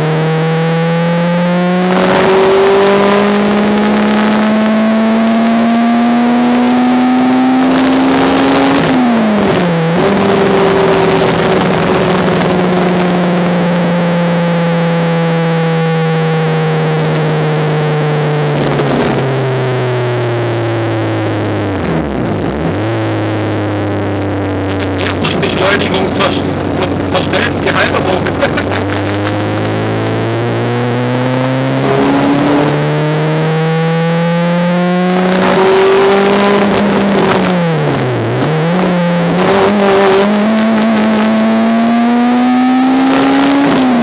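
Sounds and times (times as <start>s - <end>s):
race car engine at high revs: 0.0s - 44.0s
wind and road noise: 0.0s - 44.0s.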